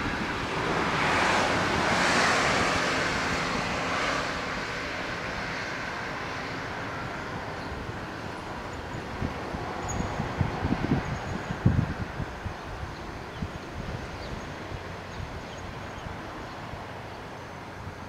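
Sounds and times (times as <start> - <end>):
road vehicle passing: 0.0 - 18.0.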